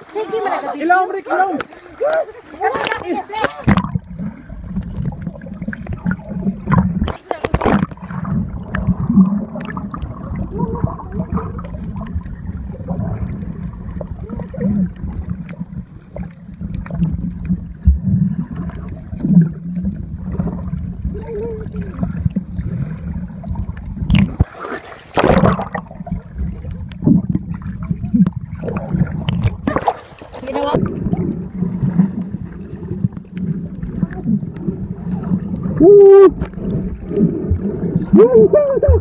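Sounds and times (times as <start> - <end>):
underwater bubbling and gurgling: 0.0 - 39.0
water burst: 1.6 - 39.0.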